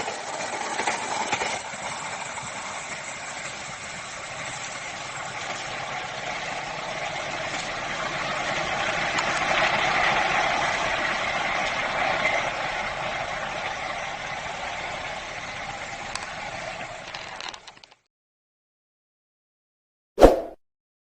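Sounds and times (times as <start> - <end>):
passing train rolling rush: 0.0 - 17.1.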